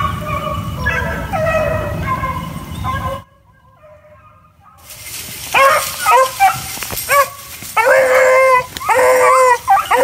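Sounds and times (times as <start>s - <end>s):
hounds baying: 0.0s - 10.0s.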